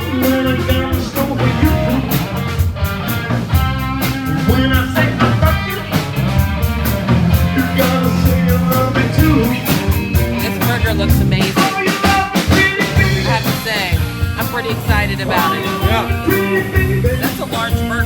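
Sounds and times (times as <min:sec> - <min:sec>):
bass guitar: 0:00.0 - 0:18.0
electric guitar: 0:00.0 - 0:18.0
steady drum beat: 0:00.0 - 0:18.0.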